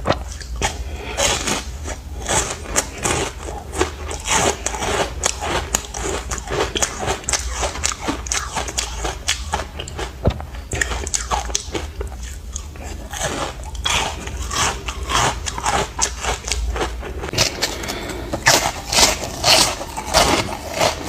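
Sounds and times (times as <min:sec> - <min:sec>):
ice being chewed and crunched: 0:00.2 - 0:21.0.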